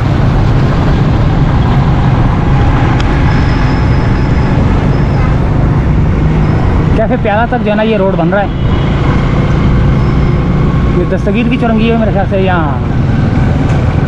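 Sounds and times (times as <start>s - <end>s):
motorcycle engine running: 0.0s - 14.0s
road traffic: 0.0s - 14.0s
wind rushing over microphone: 0.0s - 14.0s.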